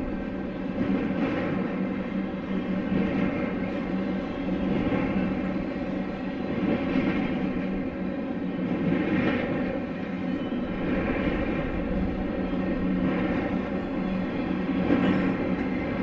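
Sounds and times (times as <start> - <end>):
freight train wheels on rail: 0.0 - 16.0.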